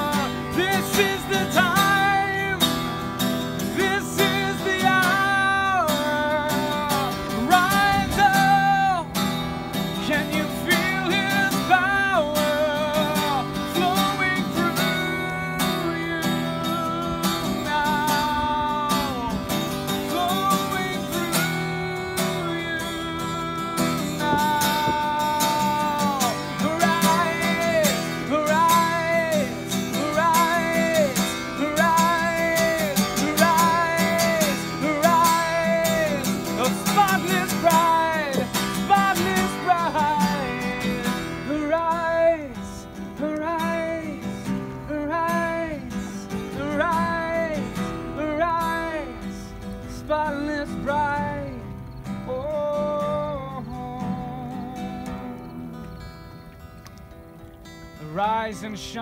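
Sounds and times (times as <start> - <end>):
man singing with vibrato: 0.0 - 56.3, 58.0 - 59.0
strummed acoustic guitar: 0.0 - 59.0.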